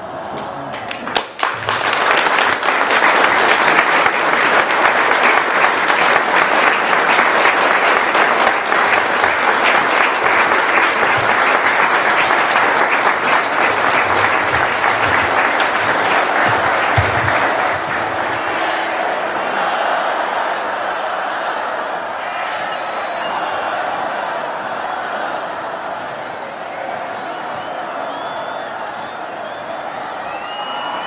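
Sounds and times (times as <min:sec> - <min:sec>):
large crowd applauding: 0:00.6 - 0:31.0.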